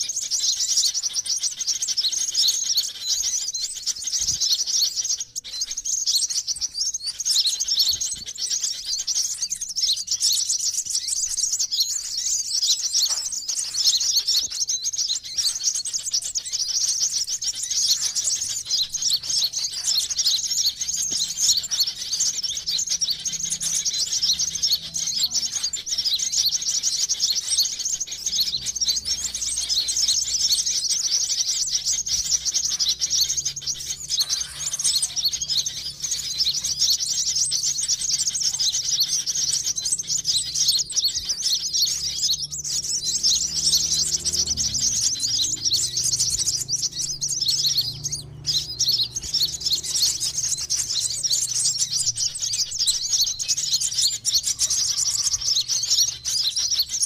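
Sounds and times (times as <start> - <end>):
sunbirds chirping: 0.0 - 57.0.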